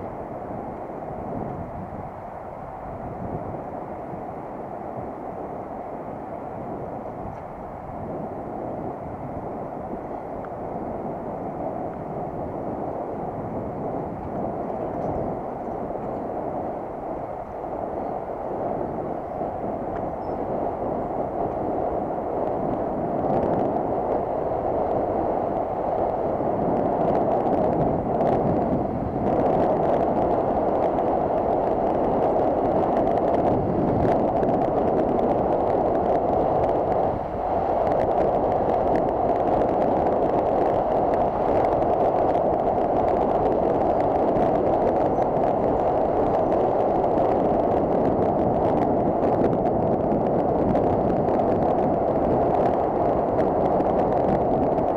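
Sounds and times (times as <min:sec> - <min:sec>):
bicycle rolling noise: 0:00.0 - 0:54.9
wind rushing on microphone: 0:00.0 - 0:54.9.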